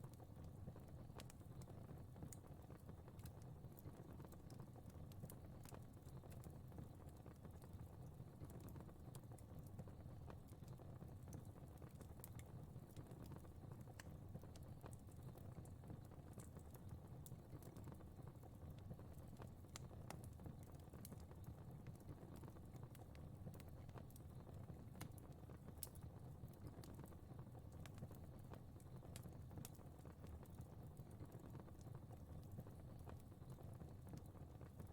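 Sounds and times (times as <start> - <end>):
fire crackling and popping: 0.0 - 34.9
low fire rumble: 0.0 - 34.9.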